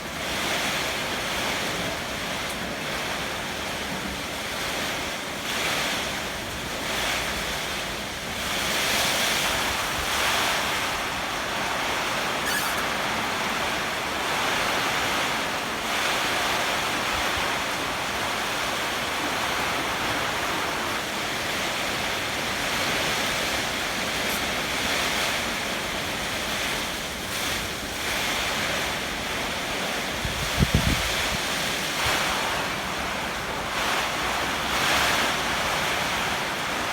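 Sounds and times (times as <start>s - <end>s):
heavy rain: 0.0s - 36.9s
strong gusting wind: 6.8s - 36.9s.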